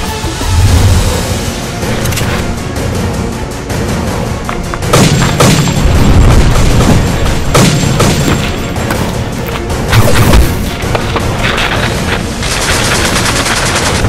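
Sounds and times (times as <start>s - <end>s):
action film music: 0.0s - 14.0s.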